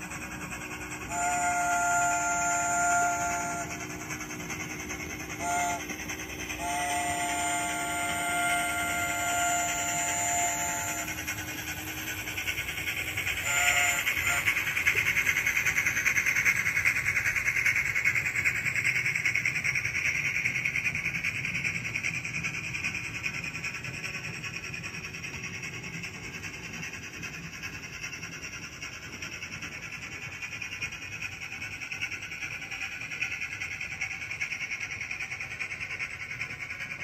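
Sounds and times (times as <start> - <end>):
model train steam chuffing: 0.0 - 37.0.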